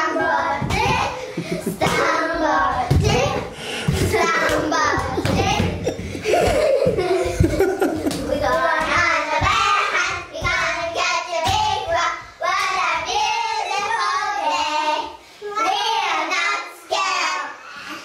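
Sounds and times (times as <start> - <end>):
children singing a chant: 0.0 - 5.9, 8.2 - 18.0.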